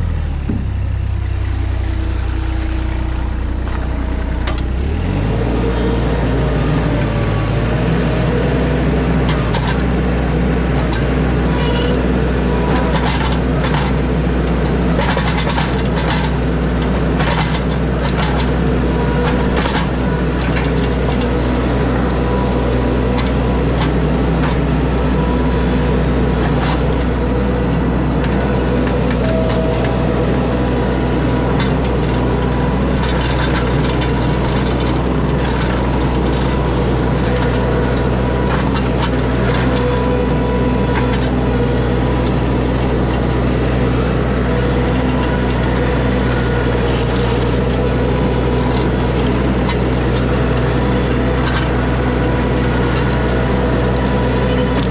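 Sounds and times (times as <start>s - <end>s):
heavy equipment engine running: 0.0s - 54.9s.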